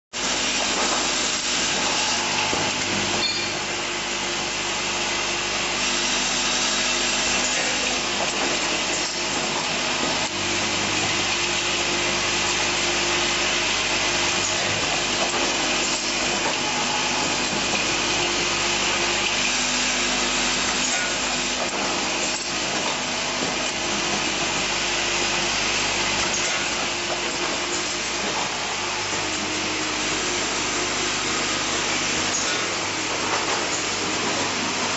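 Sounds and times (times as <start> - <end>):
riveting machine running: 0.2 - 34.9.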